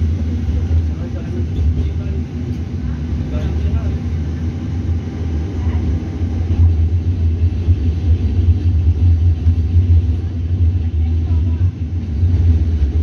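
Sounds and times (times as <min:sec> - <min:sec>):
tram rumbling: 0:00.0 - 0:13.0.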